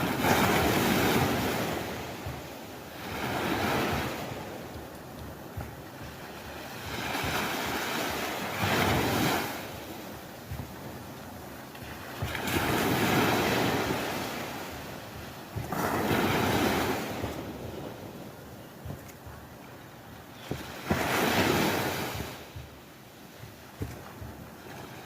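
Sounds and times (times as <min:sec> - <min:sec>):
sea waves washing ashore: 0:00.0 - 0:25.0.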